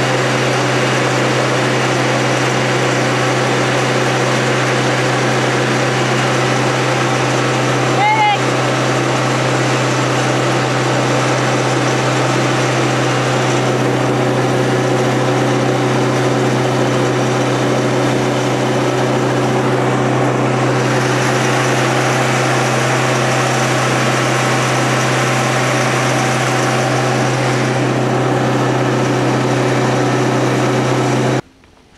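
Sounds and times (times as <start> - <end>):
fire truck engine humming: 0.0 - 31.9.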